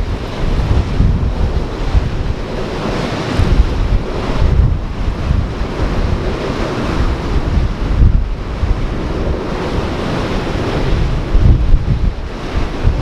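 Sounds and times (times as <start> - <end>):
ocean surf waves: 0.0 - 13.0
wind buffeting the microphone: 0.0 - 13.0.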